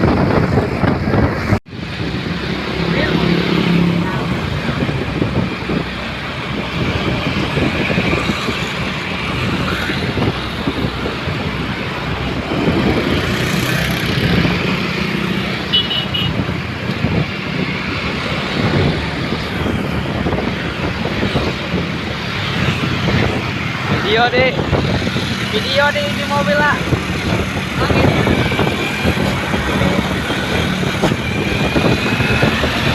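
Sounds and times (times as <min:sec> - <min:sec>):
road traffic noise: 0:00.0 - 0:32.9.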